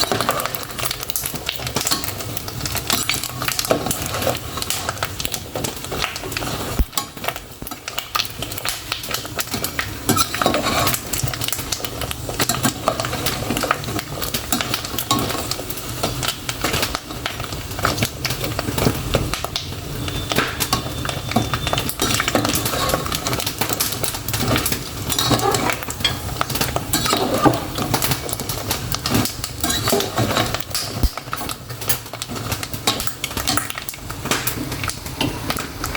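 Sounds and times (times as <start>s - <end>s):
pork rinds frying crackling: 0.0s - 35.9s.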